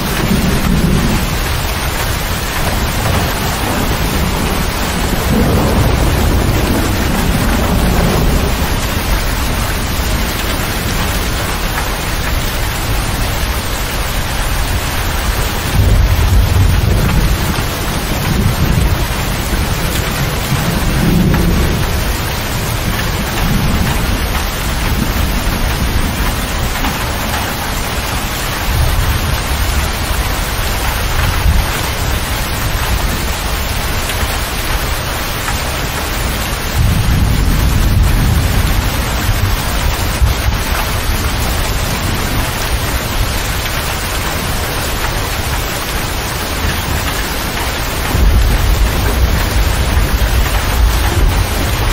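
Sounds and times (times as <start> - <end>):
heavy rain drumming on cab roof: 0.0 - 51.9
thunder rumbling: 0.0 - 51.9.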